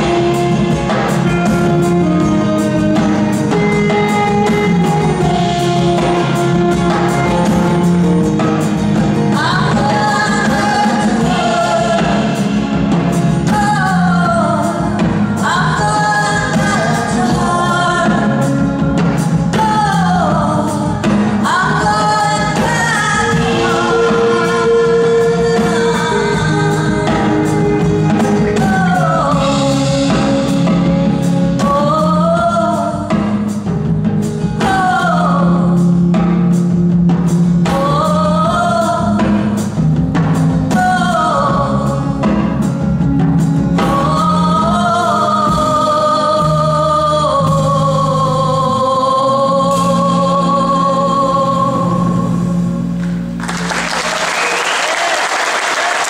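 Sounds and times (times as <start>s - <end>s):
woman singing: 0.0s - 33.7s, 34.4s - 36.0s, 37.6s - 39.8s, 40.6s - 42.7s, 43.6s - 52.6s
electric guitar: 0.0s - 54.7s.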